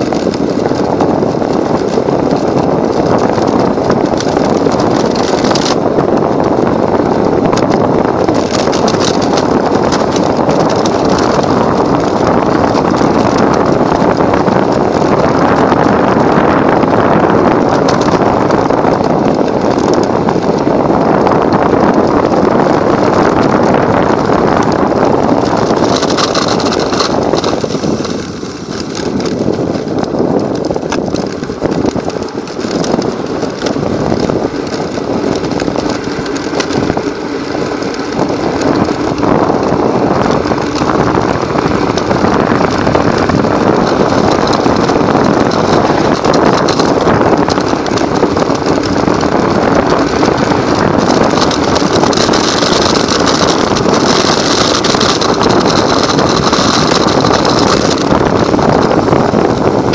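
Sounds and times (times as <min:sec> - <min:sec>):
electric scooter running: 0:00.0 - 0:59.9
wind on microphone: 0:00.0 - 0:59.9.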